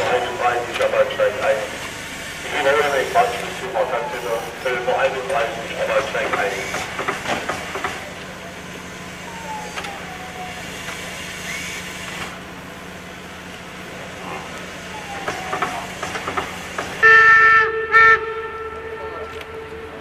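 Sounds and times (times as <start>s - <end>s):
steam locomotive hissing: 0.0s - 17.2s.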